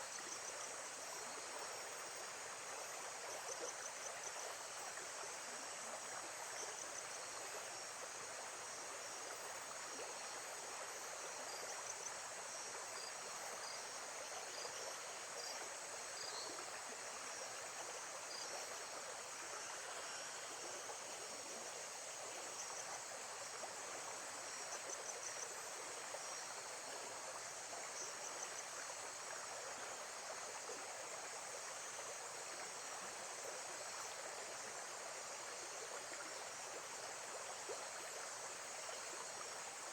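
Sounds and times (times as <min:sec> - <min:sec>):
insects chirping: 0:00.0 - 0:39.9
moving water: 0:00.0 - 0:39.9.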